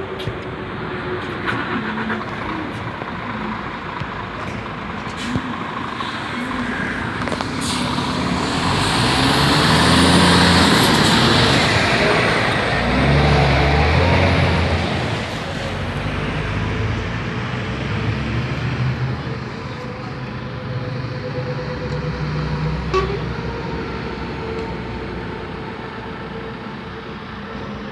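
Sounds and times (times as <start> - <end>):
heavy truck engine running: 0.0 - 27.9
road traffic noise: 0.0 - 27.9.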